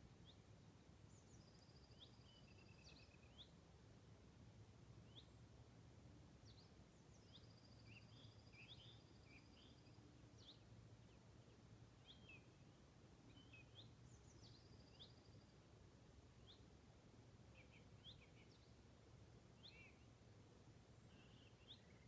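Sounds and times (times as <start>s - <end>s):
faint songbirds singing: 0.0s - 22.0s.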